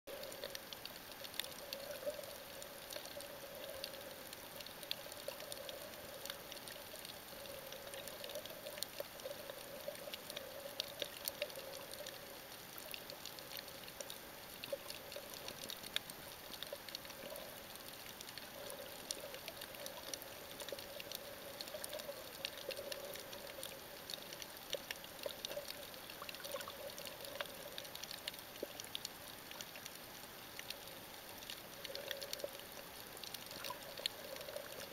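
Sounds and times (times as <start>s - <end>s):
low underwater drone: 0.1s - 34.9s
underwater clicks and crackles: 0.1s - 34.9s.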